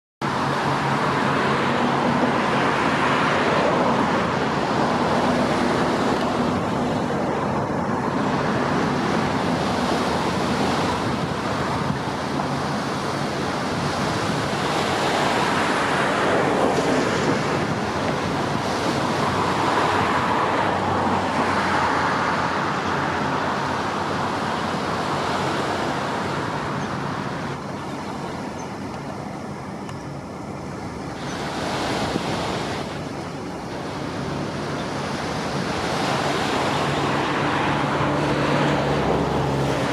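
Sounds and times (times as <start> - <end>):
road traffic rushing: 0.2 - 39.9
wind: 0.2 - 39.9.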